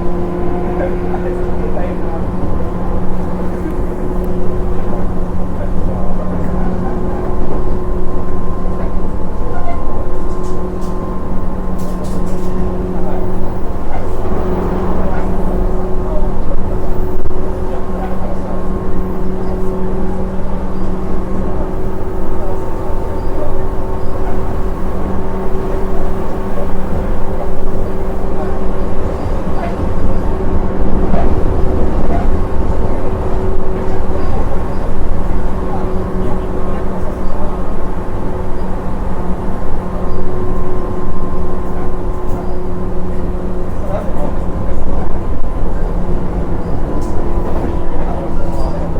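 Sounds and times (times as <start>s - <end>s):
constant hum: 0.0s - 48.9s
train rumble: 0.0s - 48.9s.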